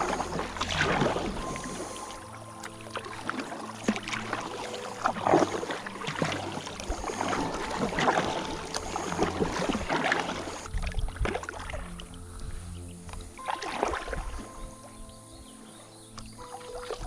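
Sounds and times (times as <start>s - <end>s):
paddle splashing in water: 0.0s - 15.1s, 16.2s - 17.0s.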